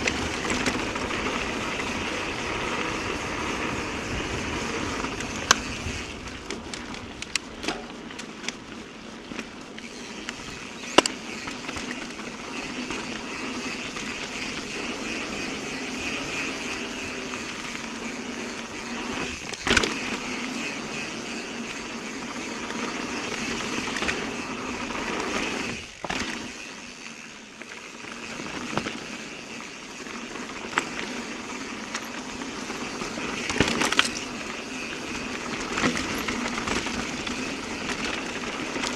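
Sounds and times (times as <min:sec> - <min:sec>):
bike knocking and clattering: 0:00.0 - 0:38.9
tyre and wind noise: 0:00.0 - 0:38.9.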